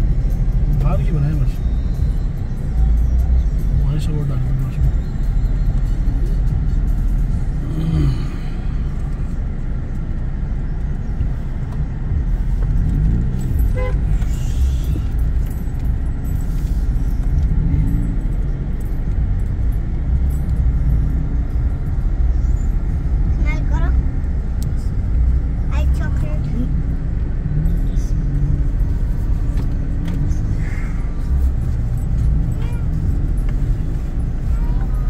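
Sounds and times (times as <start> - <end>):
car engines and tyres rumbling: 0.0 - 35.0.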